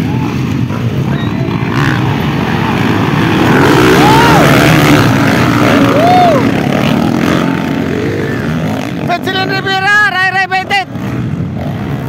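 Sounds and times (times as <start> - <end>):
dirt bike engines roaring: 0.0 - 12.0
dirt bike revving: 0.0 - 12.0.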